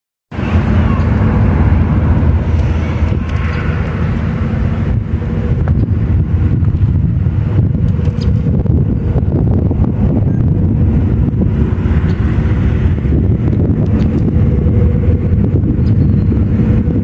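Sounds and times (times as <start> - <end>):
locomotive engine rumble: 0.3 - 17.0.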